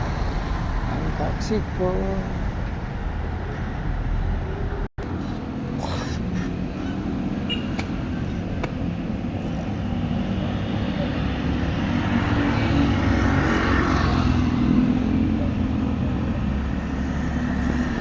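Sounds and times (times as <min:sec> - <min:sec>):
vehicle road noise rumble: 0:00.0 - 0:18.0.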